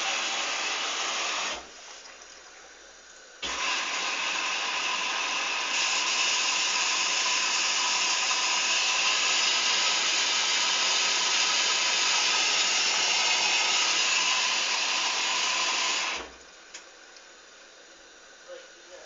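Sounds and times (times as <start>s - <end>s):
water rushing through inlet valve: 0.0s - 16.8s.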